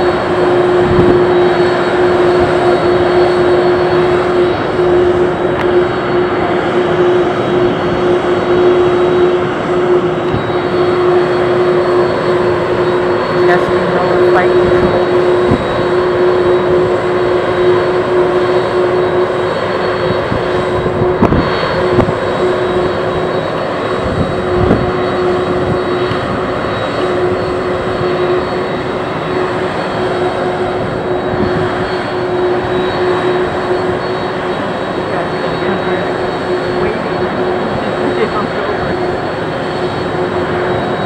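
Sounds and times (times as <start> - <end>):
jet engines running: 0.0 - 41.0.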